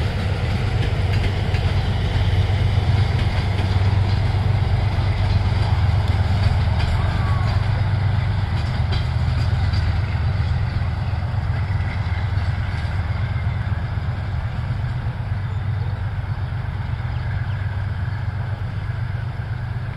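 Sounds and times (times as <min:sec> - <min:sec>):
train rolling rumble: 0:00.0 - 0:19.9.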